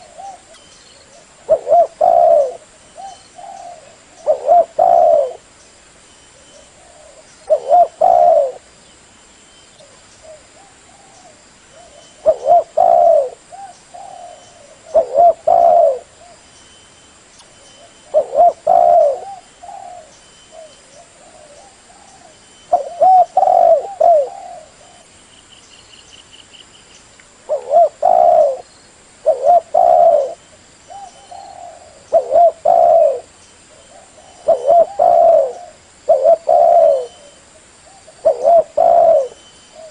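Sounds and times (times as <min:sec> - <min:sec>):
dove cooing: 0:00.0 - 0:05.5, 0:06.4 - 0:08.7, 0:09.8 - 0:16.4, 0:17.8 - 0:25.1, 0:27.5 - 0:39.9.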